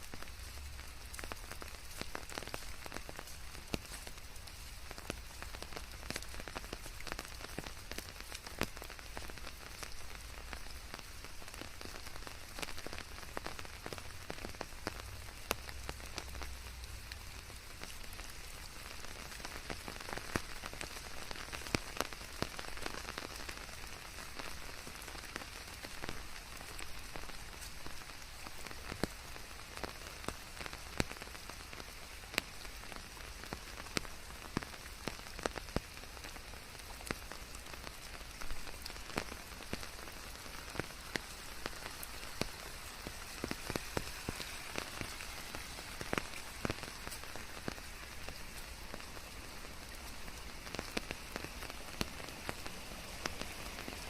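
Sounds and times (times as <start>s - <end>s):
raindrops pattering: 0.0s - 54.0s
steady rain hiss: 0.0s - 54.0s.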